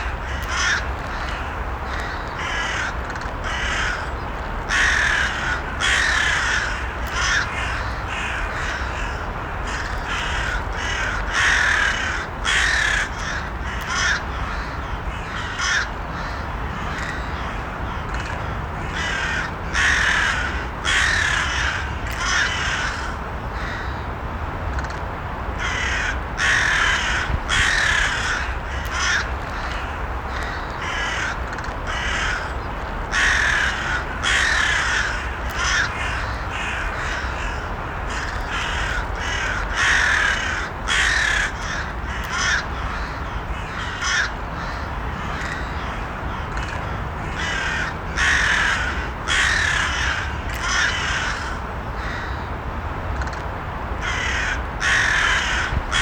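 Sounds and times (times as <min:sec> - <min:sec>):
crows cawing: 0:00.0 - 0:24.0, 0:25.6 - 0:52.5, 0:54.0 - 0:56.0
low background noise: 0:00.0 - 0:56.0.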